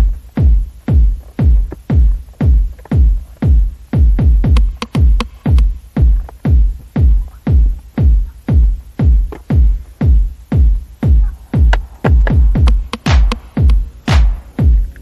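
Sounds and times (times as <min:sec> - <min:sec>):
music with kick-drum beat: 0:00.0 - 0:15.0.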